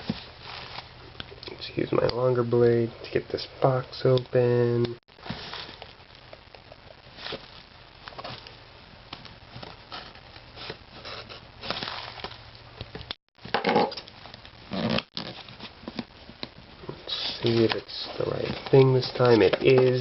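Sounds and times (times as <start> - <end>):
rustling: 0.0 - 3.2, 4.8 - 13.1, 14.0 - 20.0.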